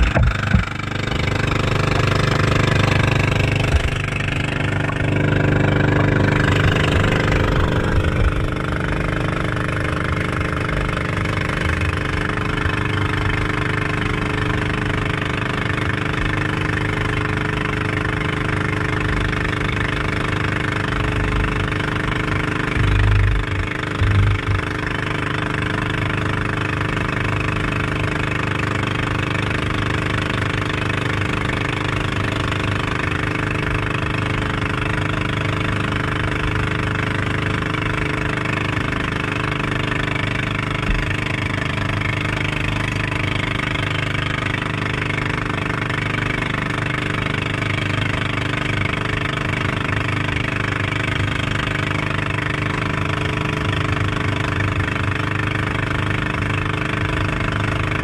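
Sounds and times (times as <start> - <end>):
boat engine running: 0.0 - 58.0
rushing water and air: 0.0 - 58.0.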